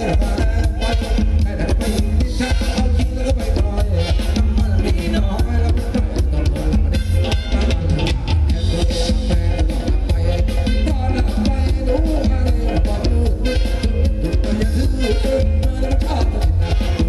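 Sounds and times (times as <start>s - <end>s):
live band playing dance music: 0.0s - 17.0s.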